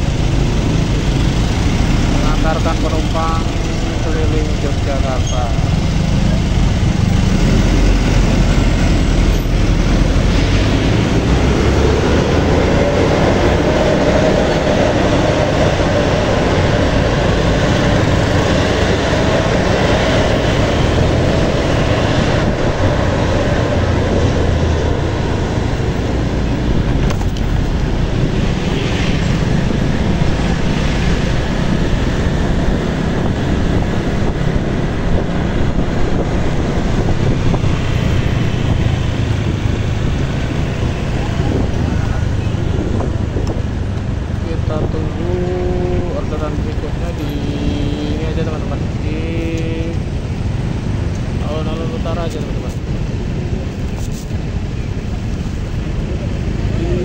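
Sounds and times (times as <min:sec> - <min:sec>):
road noise: 0:00.0 - 0:57.0
wind noise: 0:00.0 - 0:57.0.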